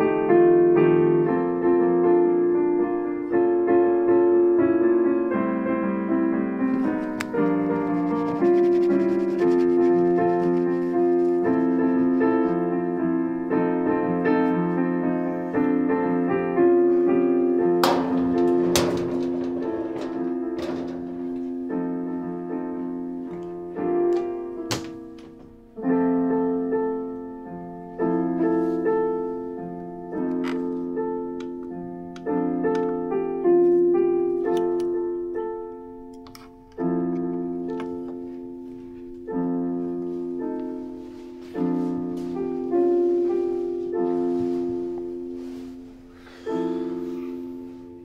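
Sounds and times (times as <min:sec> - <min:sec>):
slow piano chords: 0:00.0 - 0:48.0.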